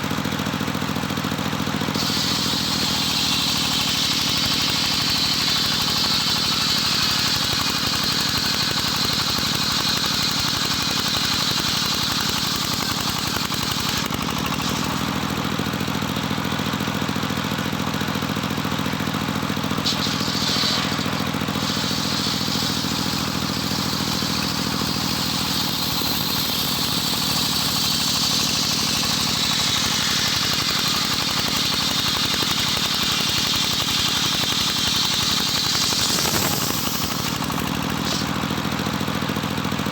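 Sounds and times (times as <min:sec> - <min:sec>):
sawmill engine droning: 0:00.0 - 0:39.9
saw blade high whine: 0:01.8 - 0:16.0, 0:19.6 - 0:38.8.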